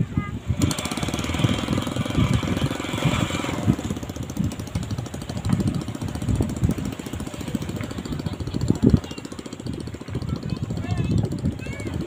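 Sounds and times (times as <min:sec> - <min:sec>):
small boat engine chugging: 0:00.0 - 0:12.0.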